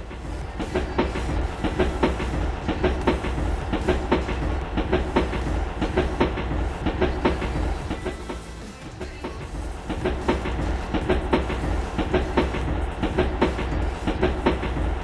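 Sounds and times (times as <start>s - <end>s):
low train rumble: 0.0s - 15.0s
train wheels clicking over rail joints: 0.0s - 15.0s.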